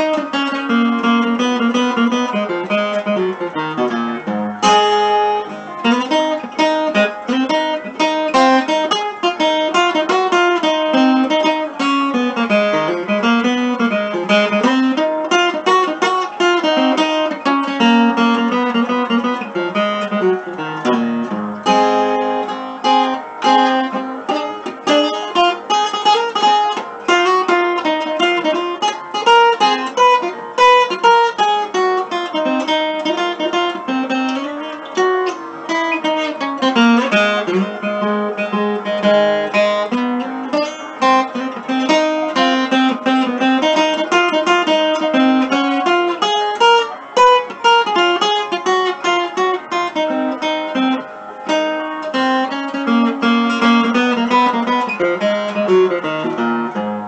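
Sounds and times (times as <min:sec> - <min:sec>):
fingerstyle acoustic guitar blues: 0:00.0 - 0:57.0.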